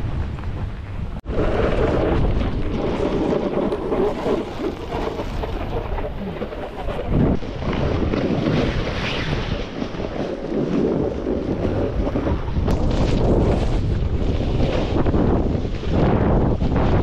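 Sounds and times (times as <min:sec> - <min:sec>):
wind on microphone: 0:00.0 - 0:17.0
snowboard scraping on snow: 0:01.3 - 0:17.0.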